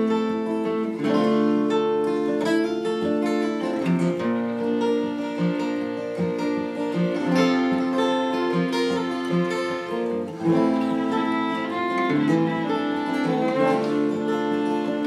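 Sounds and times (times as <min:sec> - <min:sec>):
acoustic guitars strumming: 0:00.0 - 0:15.0
fiddle playing bowed notes: 0:00.0 - 0:15.0.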